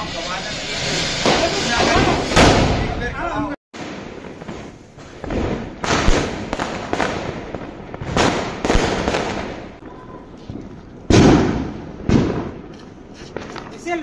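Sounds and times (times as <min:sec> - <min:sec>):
firecrackers banging: 0:00.0 - 0:14.0.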